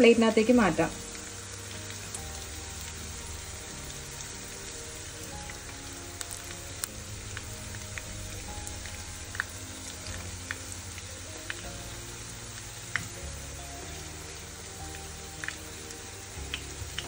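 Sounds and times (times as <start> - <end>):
chicken sizzling in hot oil: 0.0 - 17.0
oil popping and crackling: 0.0 - 17.0.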